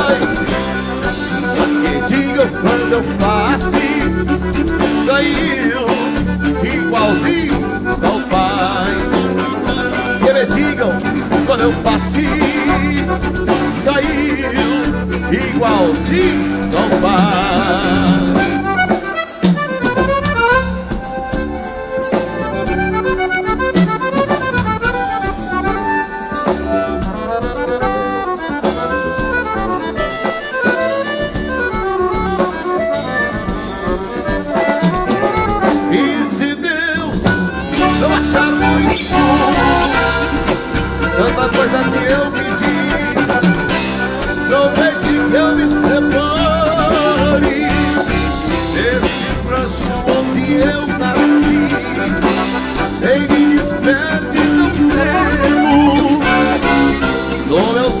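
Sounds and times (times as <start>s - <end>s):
accordion: 0.0s - 58.0s
drums: 0.0s - 58.0s
electric guitar: 0.0s - 58.0s.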